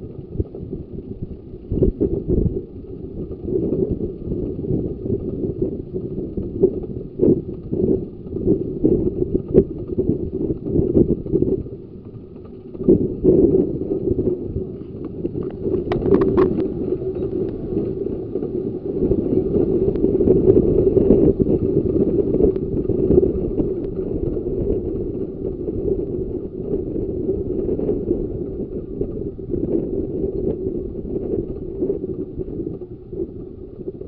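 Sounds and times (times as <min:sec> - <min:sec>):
train rumbling: 0:00.0 - 0:34.0
wheels clattering on track: 0:00.0 - 0:34.0.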